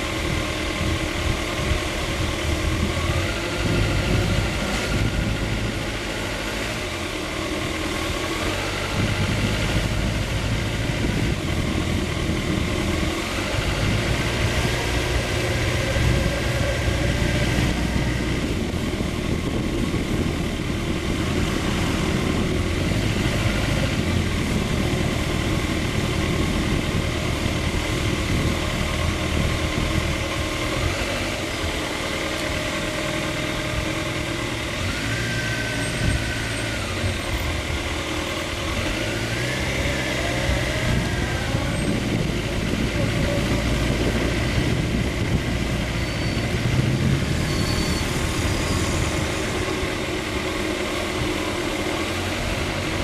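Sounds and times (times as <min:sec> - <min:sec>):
motorcycle engine at low speed: 0:00.0 - 0:53.0.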